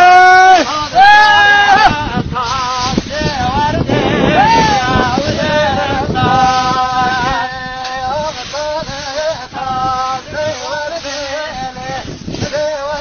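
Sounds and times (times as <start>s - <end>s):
man singing long held phrases: 0.0s - 13.0s
scythes swishing through grass: 2.4s - 13.0s.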